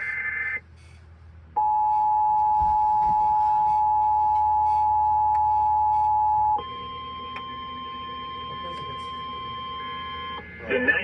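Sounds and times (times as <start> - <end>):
steady higher-pitched tone: 1.6 - 11.0.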